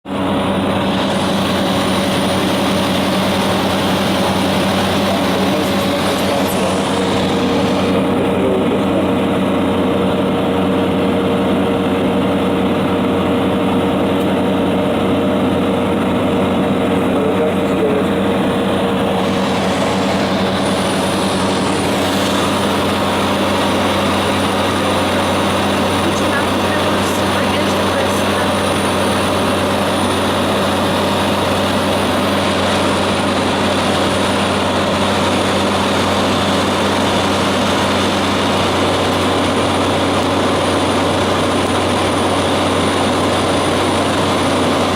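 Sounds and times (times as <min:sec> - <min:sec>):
turboprop engine droning: 0:00.0 - 0:44.9.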